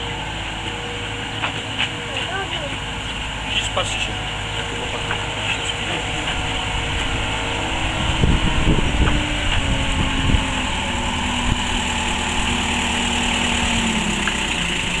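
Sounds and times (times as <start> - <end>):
locomotive engine running: 0.0 - 15.0.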